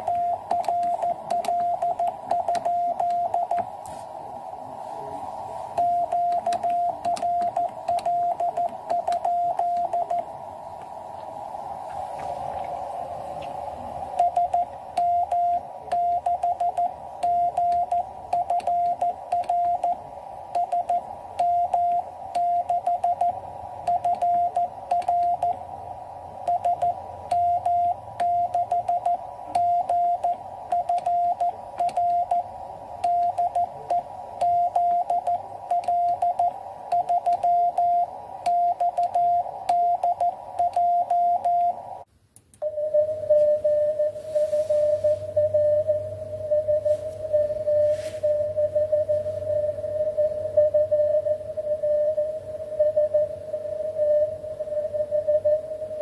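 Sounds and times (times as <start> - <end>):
morse code tone: 0.0 - 3.7, 5.7 - 10.3, 14.1 - 25.8, 26.4 - 42.0, 42.6 - 56.0
faint band noise hiss: 0.0 - 40.8, 41.7 - 56.0.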